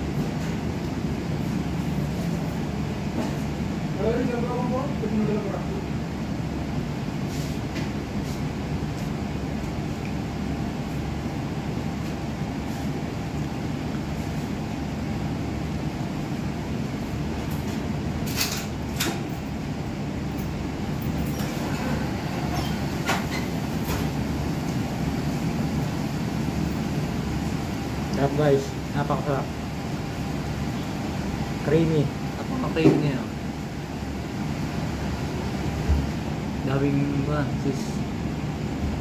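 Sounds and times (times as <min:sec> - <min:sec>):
air conditioning rumble: 0:00.0 - 0:39.0.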